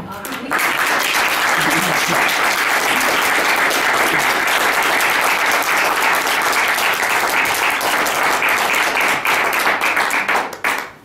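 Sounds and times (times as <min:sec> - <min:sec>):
audience applause: 0:00.4 - 0:11.0.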